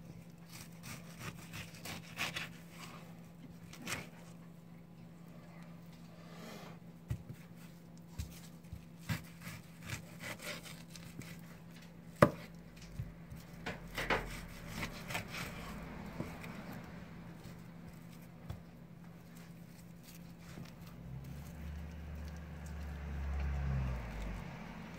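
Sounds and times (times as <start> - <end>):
knife cutting and scraping fish: 0.0 - 4.4, 6.4 - 23.3.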